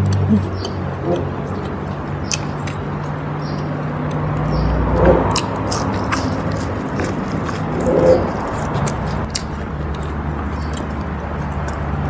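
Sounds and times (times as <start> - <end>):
wet mouth clicks: 0.0 - 11.9
person chewing food: 0.0 - 12.0.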